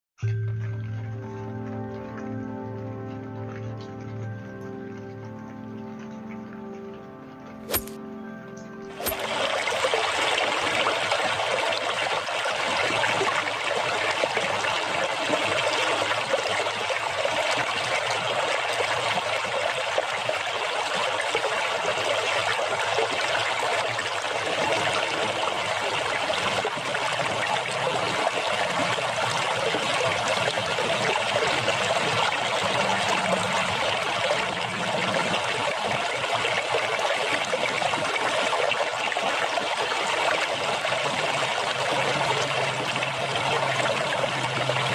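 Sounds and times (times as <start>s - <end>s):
water splashing and trickling: 0.2s - 44.9s.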